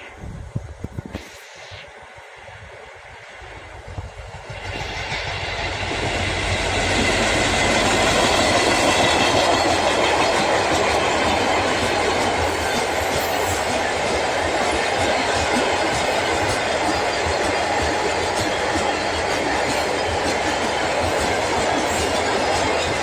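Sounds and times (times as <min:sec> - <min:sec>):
freight train passing: 0:01.5 - 0:23.0.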